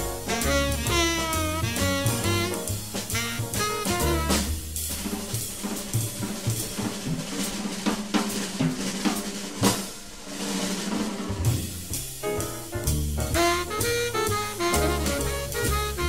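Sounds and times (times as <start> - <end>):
jazz drum solo: 0.0 - 16.0.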